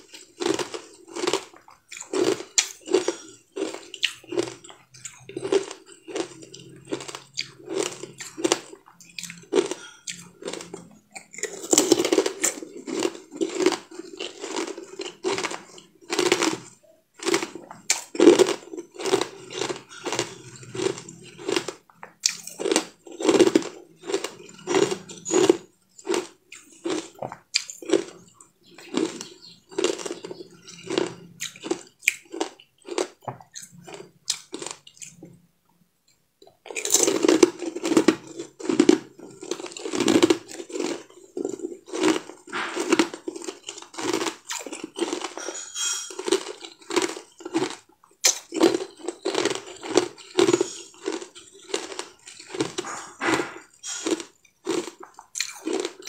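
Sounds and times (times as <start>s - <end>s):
person chewing and crunching: 0.0s - 35.4s, 36.0s - 56.0s.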